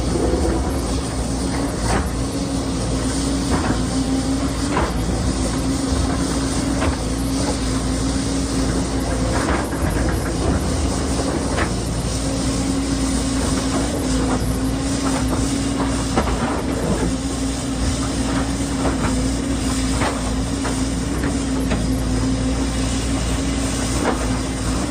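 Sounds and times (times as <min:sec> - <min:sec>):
excavator engine humming: 0:00.0 - 0:24.9.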